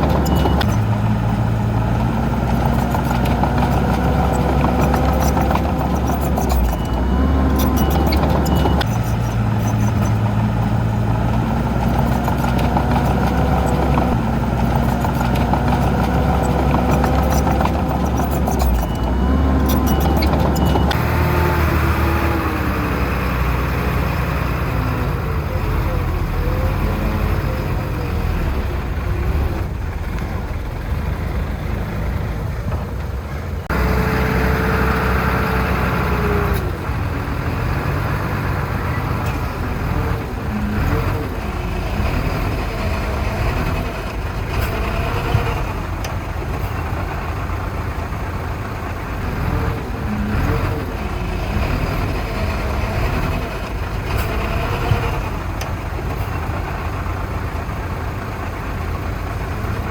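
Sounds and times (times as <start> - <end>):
heavy diesel machinery engines: 0.0 - 59.9.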